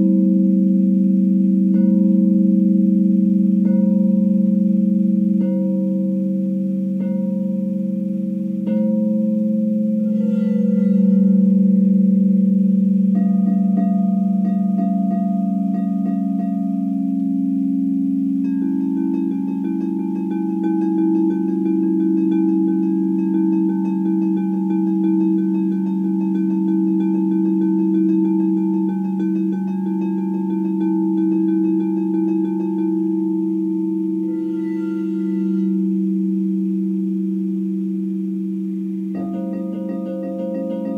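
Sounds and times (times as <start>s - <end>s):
crystal singing bowls ringing: 0.0s - 40.9s.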